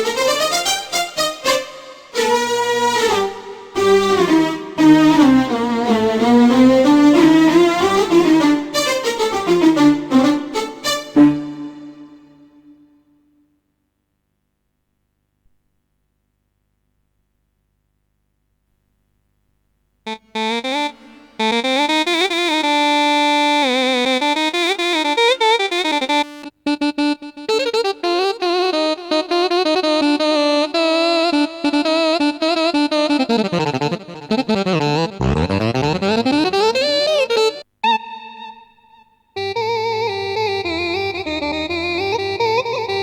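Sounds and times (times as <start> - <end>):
keyboard lead melody: 0.0 - 13.0, 20.1 - 43.0.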